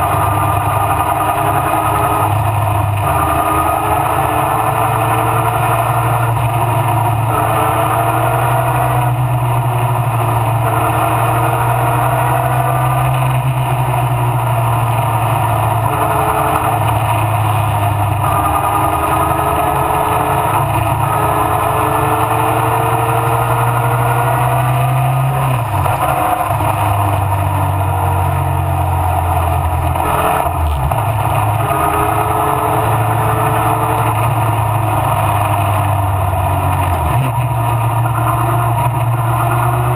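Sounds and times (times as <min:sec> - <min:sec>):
racing car engine at high revs: 0:00.0 - 0:39.9.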